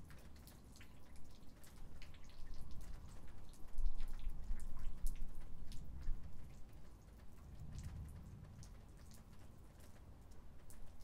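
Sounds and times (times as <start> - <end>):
raindrops dripping: 0.0 - 11.0.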